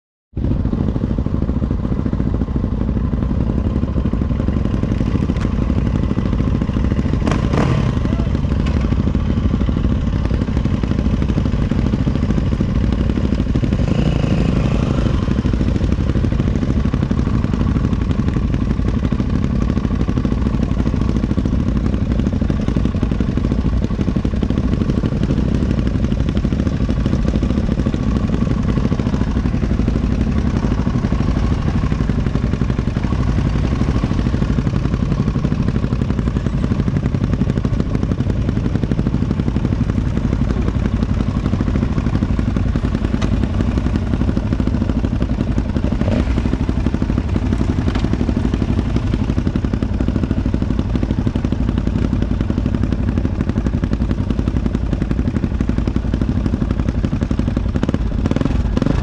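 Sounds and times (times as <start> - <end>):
motorcycle engine idling: 0.4 - 59.0.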